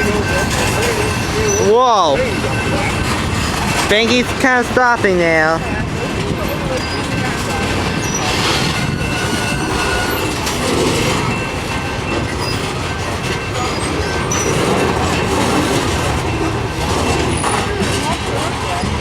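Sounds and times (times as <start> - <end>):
freight train rolling on rails: 0.0 - 19.0
high wheel squeals: 0.0 - 19.0.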